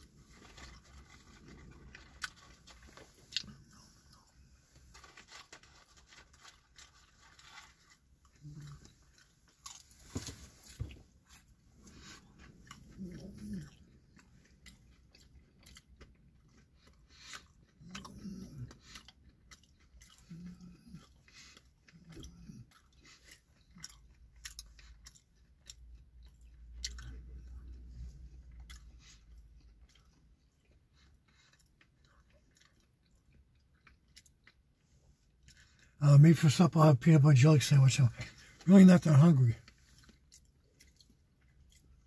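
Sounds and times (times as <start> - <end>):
chewing and crunching food: 0.0 - 42.0.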